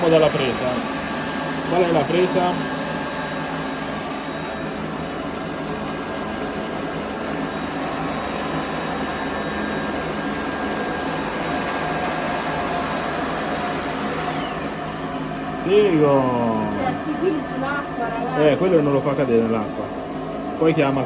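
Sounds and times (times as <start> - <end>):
suction unit motor humming: 0.0 - 21.0.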